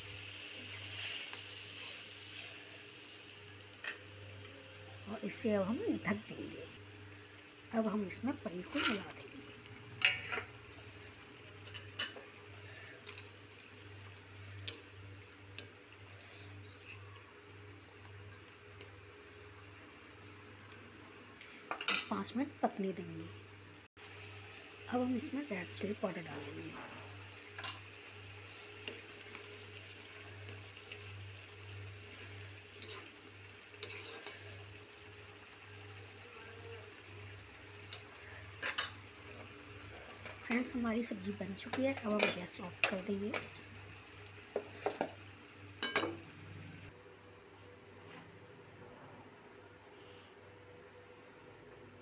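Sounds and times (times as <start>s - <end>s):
curry sizzling: 0.0s - 47.0s.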